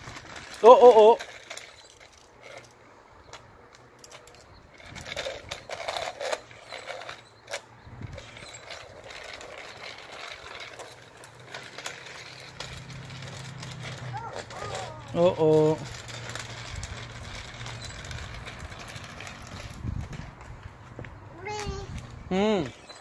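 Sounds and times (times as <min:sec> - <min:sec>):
plastic wheels rolling on concrete: 0:00.0 - 0:23.0.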